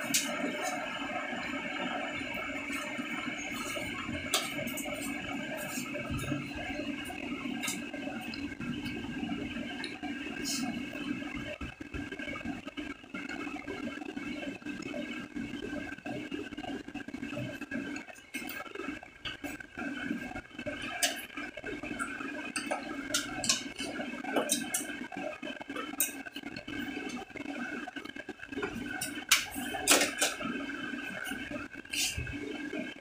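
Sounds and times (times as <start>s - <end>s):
room machinery humming: 0.0s - 33.0s.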